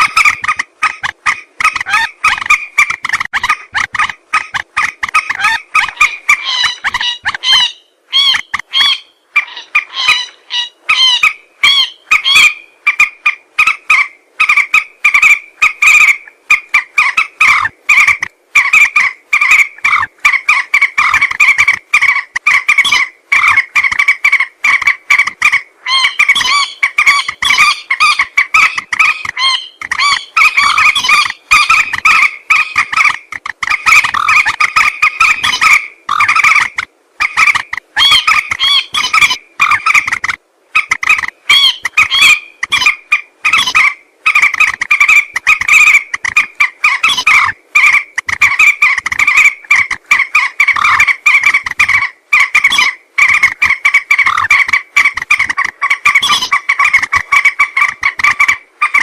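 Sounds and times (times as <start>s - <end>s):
moorhen calling: 0.0s - 59.0s.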